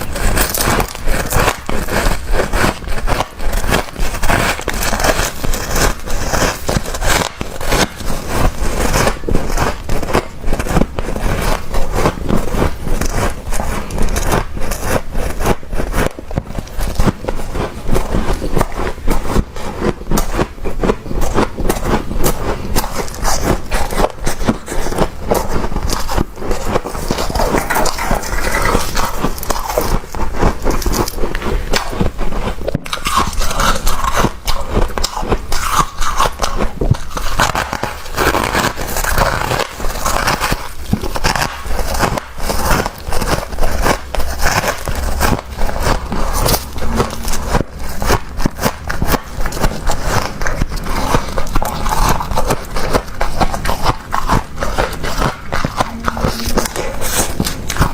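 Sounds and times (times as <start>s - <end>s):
frost being scraped: 0.0s - 57.9s.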